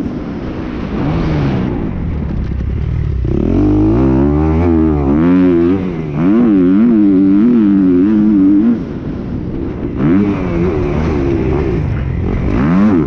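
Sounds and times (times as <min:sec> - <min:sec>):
motocross bike engine revving: 0:00.8 - 0:13.0.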